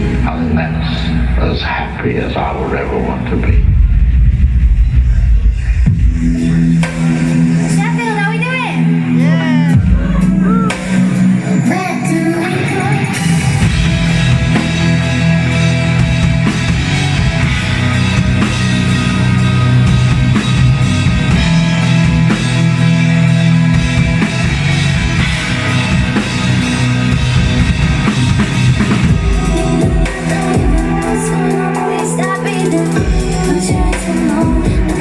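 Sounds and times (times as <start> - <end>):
drum kit: 0.0 - 35.0
electric guitar playing: 3.6 - 35.0.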